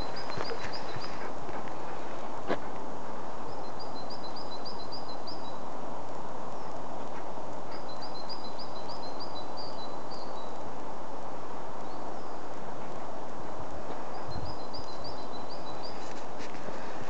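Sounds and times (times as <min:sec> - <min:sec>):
rushing outdoor background noise: 0:00.0 - 0:17.0
songbird singing: 0:00.0 - 0:17.0.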